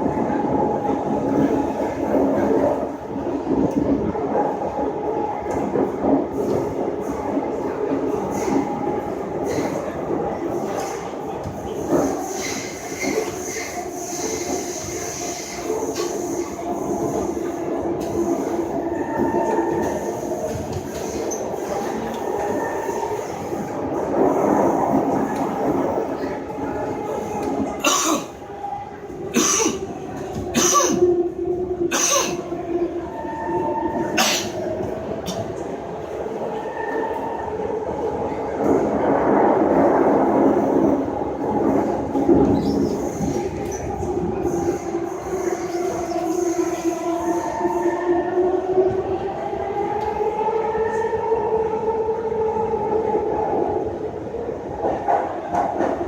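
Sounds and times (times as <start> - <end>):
metro train interior rumble: 0.0 - 56.0.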